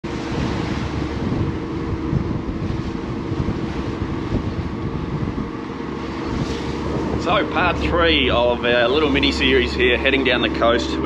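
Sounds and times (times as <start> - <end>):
wind rushing: 0.0 - 9.9
boat motor droning: 0.0 - 11.0.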